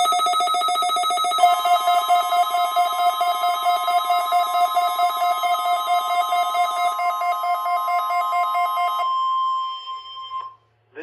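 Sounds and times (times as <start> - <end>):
steady warning tone: 0.0 - 10.5
warbling electronic beep: 0.0 - 10.5.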